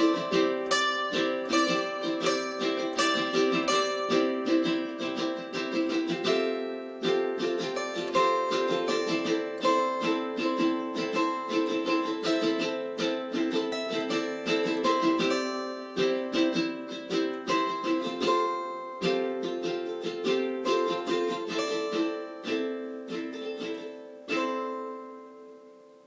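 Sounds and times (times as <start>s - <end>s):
plucked string instrument melody: 0.0s - 26.0s.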